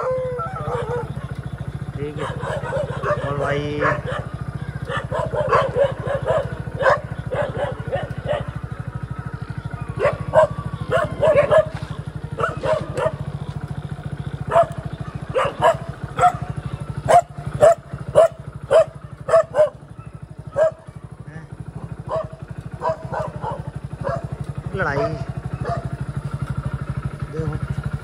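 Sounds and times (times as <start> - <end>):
dogs barking: 0.0 - 27.7.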